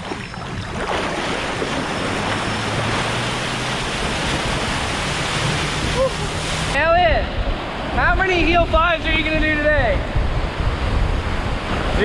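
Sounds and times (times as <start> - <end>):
water and wind rushing: 0.0 - 12.0.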